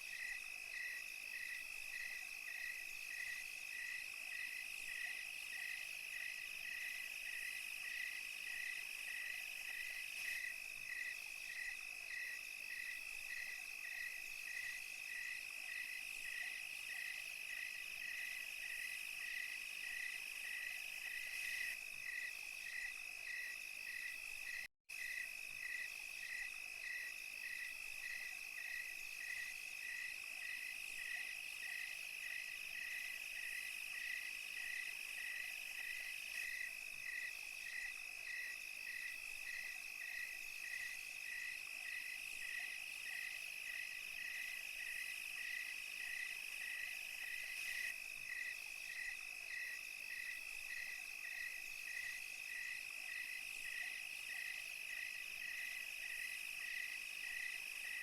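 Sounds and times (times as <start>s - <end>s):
insects trilling: 0.0s - 58.0s
pulsing insect chirp: 0.0s - 58.0s.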